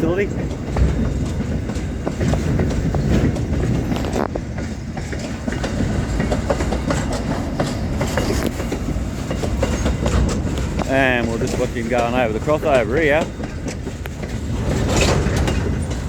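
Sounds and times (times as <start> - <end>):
freight train rumbling: 0.0 - 16.0
wheels clicking over rail joints: 0.0 - 16.0.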